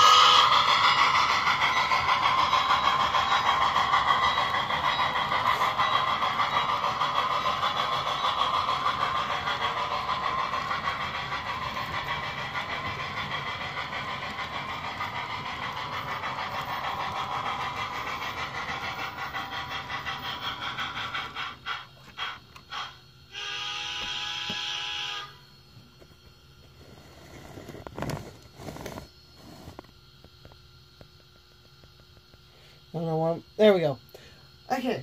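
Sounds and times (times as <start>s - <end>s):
model train wheels on rail: 0.0s - 35.0s.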